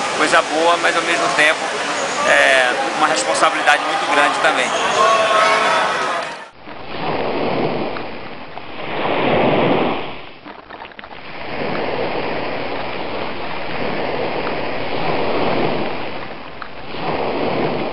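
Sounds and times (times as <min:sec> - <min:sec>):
surf washing: 0:00.0 - 0:17.9
wave breaking: 0:00.0 - 0:17.9.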